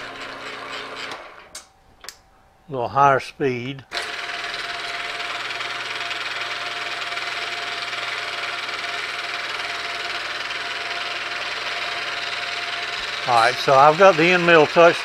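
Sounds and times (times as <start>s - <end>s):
milling machine running: 0.0s - 1.4s, 3.9s - 15.0s.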